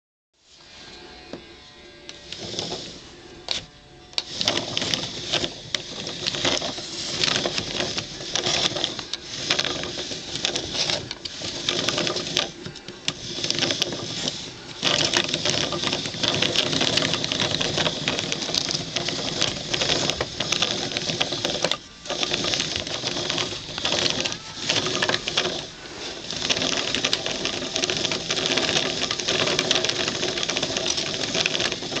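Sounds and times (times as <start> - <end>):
wooden gears clattering: 4.2 - 32.0.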